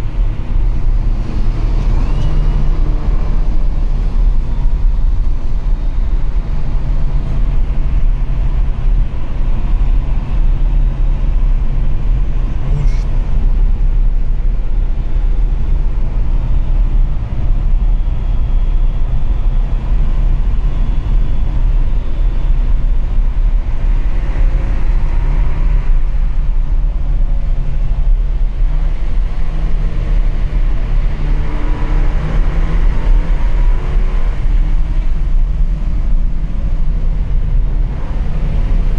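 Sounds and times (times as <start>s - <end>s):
car engine and road noise rumble: 0.0s - 38.9s.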